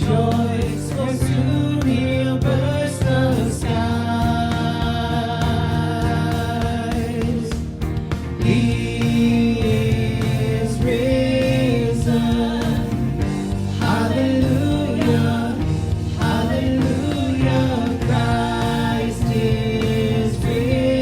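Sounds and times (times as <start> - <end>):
worship song vocals with backing: 0.0 - 21.0.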